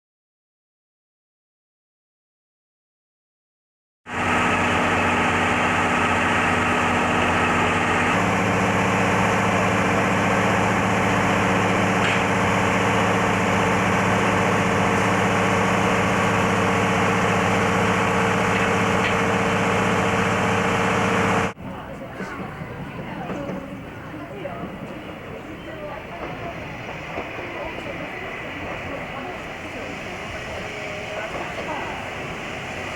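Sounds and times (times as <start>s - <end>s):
diesel railcar engine idling: 4.1s - 32.9s.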